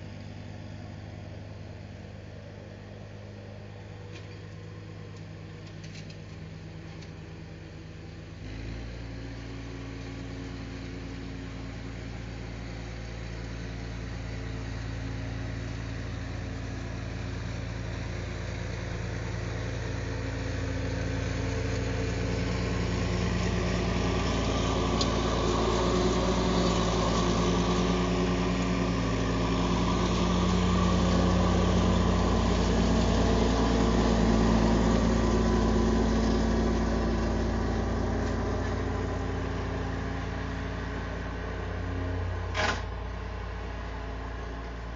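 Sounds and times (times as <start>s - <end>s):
riding mower engine running: 0.0s - 44.9s.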